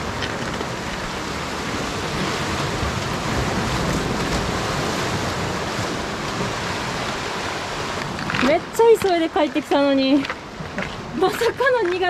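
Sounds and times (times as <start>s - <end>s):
surf breaking over rocks: 0.0s - 12.0s.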